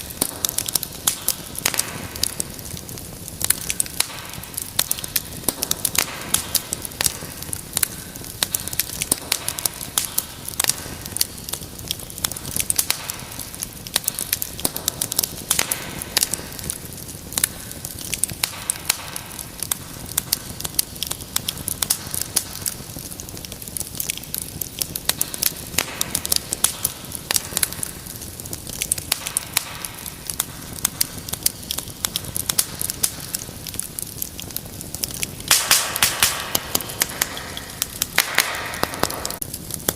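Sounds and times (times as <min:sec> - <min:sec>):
crackles and pops of burning logs: 0:00.0 - 0:39.9
wood fire burning: 0:00.0 - 0:39.9.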